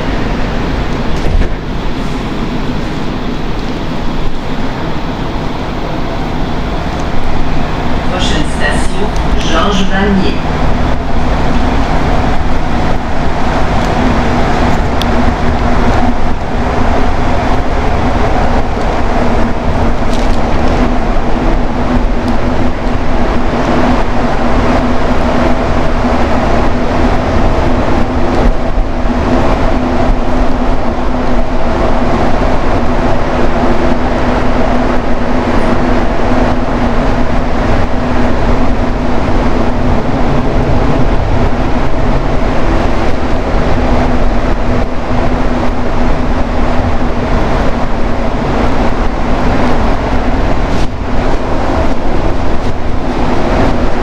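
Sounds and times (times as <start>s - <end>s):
metro train rumbling: 0.0s - 54.0s
steady hum: 0.0s - 54.0s.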